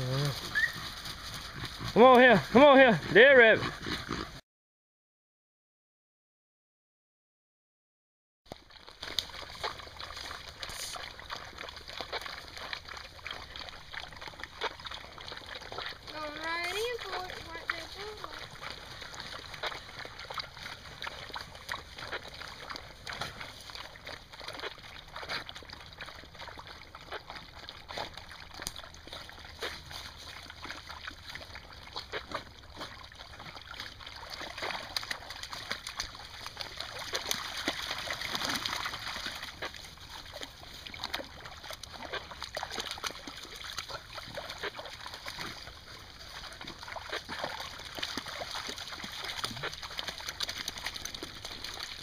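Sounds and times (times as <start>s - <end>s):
dogs splashing through water: 0.0s - 4.4s, 8.5s - 52.0s.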